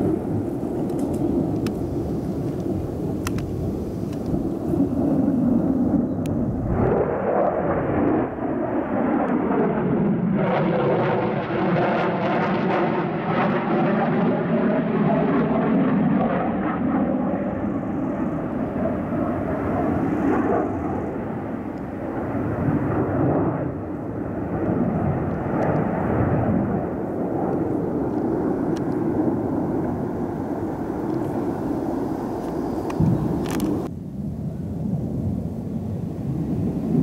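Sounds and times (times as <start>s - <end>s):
jet engine roar: 0.0s - 37.0s.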